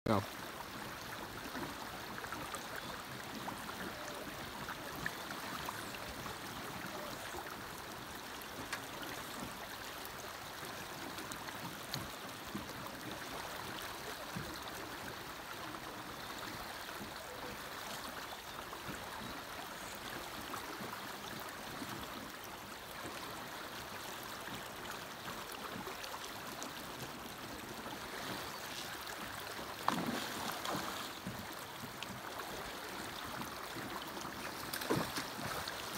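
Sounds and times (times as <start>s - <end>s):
fast river current rushing: 0.1s - 35.9s.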